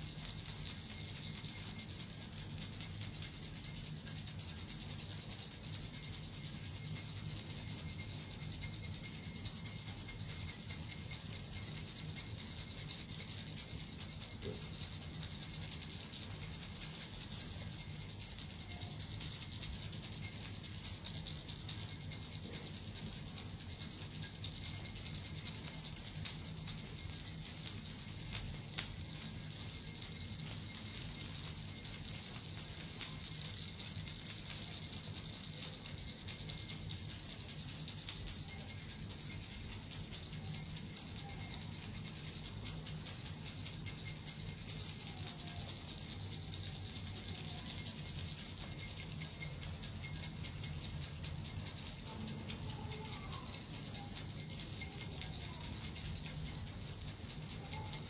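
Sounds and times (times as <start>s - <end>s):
small jingle bells shaken: 0.0s - 58.0s.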